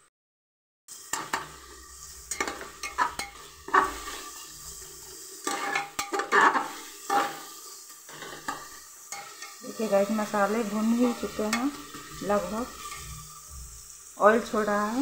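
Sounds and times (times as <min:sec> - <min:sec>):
onions sizzling in oil: 0:00.9 - 0:15.0
metal spatula scraping pot: 0:01.1 - 0:15.0.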